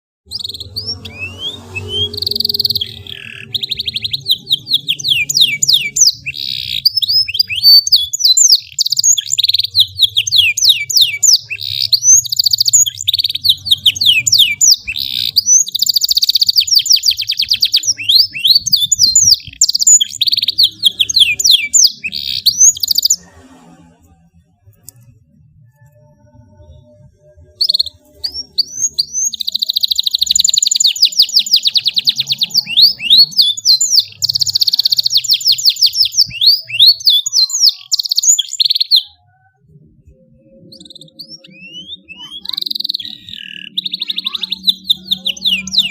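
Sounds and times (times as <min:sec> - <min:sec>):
canary singing: 0:00.2 - 0:23.5, 0:24.7 - 0:45.9.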